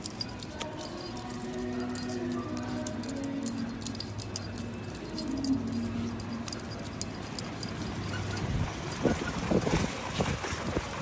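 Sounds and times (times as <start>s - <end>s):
low background hum: 0.0s - 9.9s
dog tags jingling: 0.0s - 10.1s.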